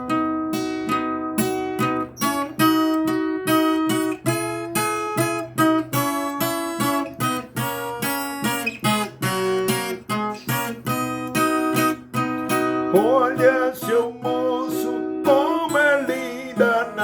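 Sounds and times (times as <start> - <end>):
folk guitar strummed and plucked: 0.0 - 17.0.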